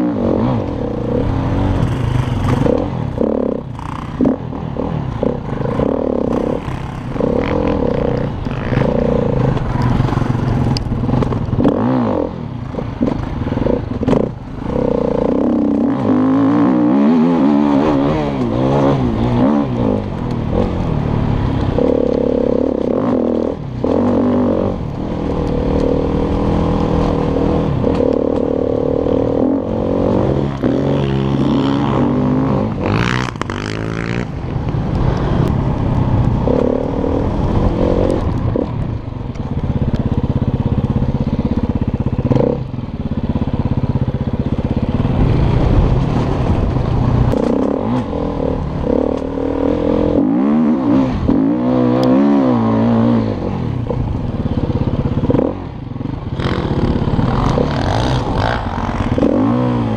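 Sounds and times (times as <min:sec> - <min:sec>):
dirt bike engine revving: 0:00.0 - 0:34.4, 0:40.3 - 0:59.9.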